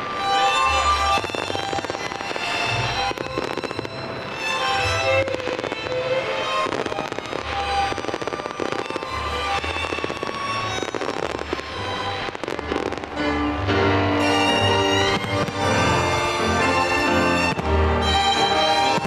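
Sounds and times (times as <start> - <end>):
fireworks bursting and crackling: 0.0 - 19.0
orchestral music with strings: 0.0 - 19.0.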